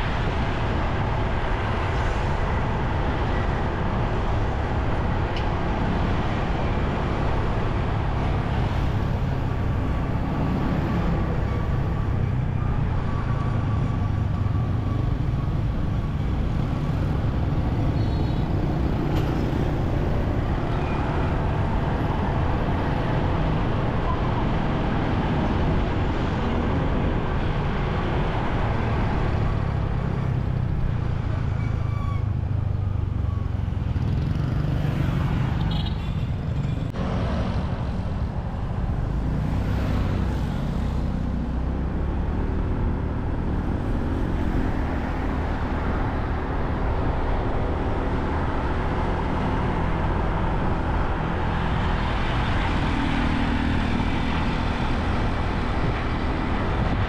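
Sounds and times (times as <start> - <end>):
traffic and road noise rumble: 0.0 - 57.0.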